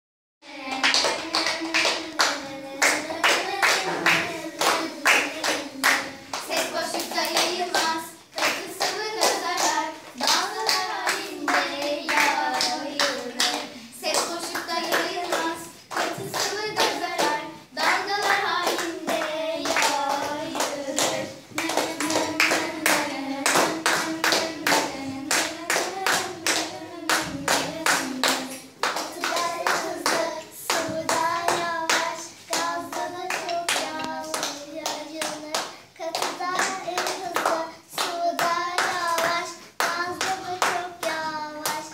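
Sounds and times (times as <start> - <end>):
girls singing in unison: 0.4 - 41.9
hands clapping on a beat: 0.6 - 41.9.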